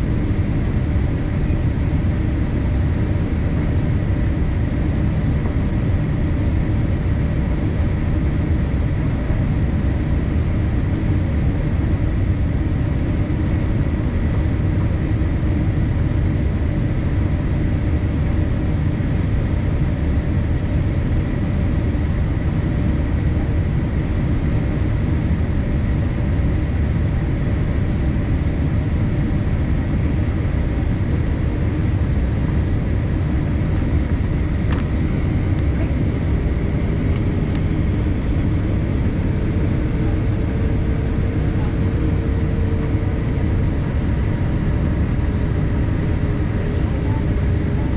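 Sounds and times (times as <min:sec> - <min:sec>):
airplane cabin engine rush: 0:00.0 - 0:47.9
faint steady whine: 0:00.0 - 0:47.9.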